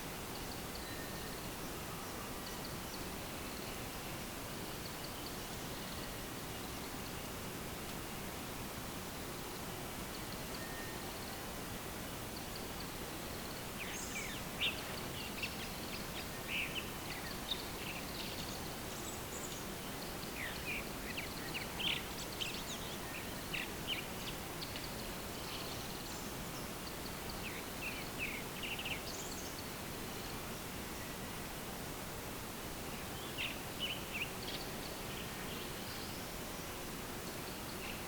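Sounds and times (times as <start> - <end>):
steady outdoor hiss: 0.0 - 38.0.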